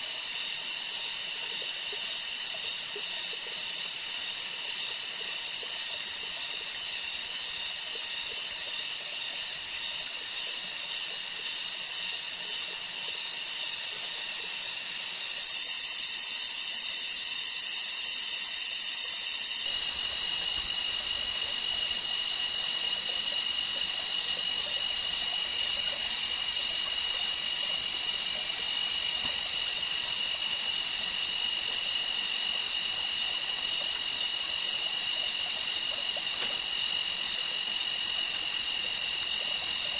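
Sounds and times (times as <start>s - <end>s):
cicada-like insects droning: 0.0s - 39.9s.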